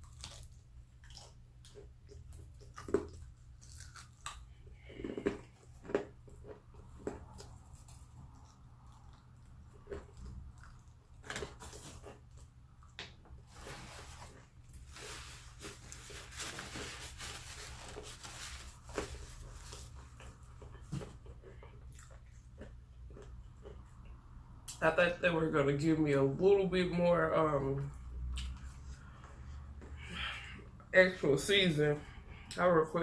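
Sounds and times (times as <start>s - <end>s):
person chewing and crunching food: 0.0s - 24.8s, 27.9s - 30.8s.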